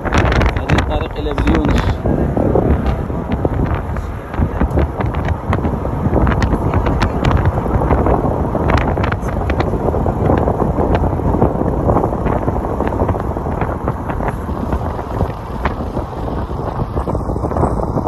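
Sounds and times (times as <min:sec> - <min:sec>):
car road noise: 0:00.0 - 0:18.0
wind buffeting microphone: 0:00.0 - 0:18.0.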